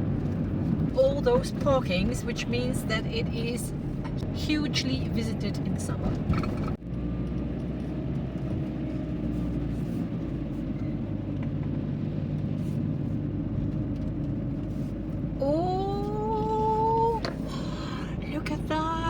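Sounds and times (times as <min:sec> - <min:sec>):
engine and road rumble in car: 0:00.0 - 0:19.0.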